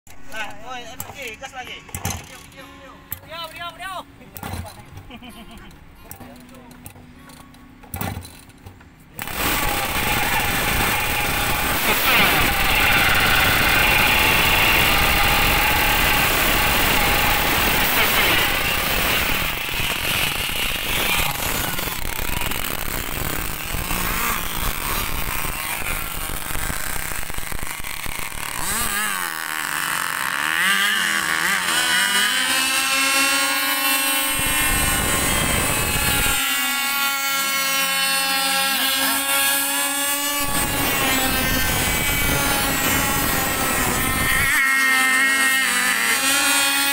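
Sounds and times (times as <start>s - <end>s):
model boat engine running: 9.2s - 46.9s.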